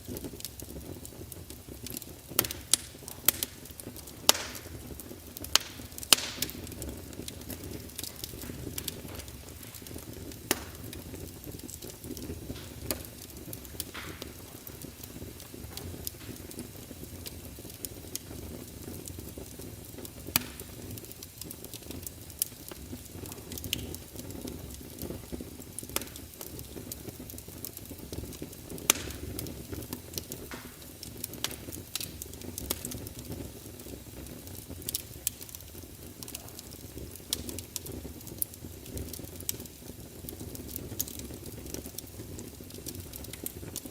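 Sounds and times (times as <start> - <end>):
fire popping and snapping: 0.0 - 43.9
fire rumbling: 0.0 - 43.9.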